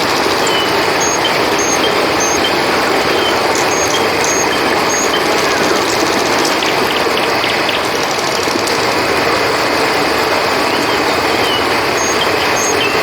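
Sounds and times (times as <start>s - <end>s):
cricket chirps: 0.0s - 13.0s
river water rushing: 0.0s - 13.0s.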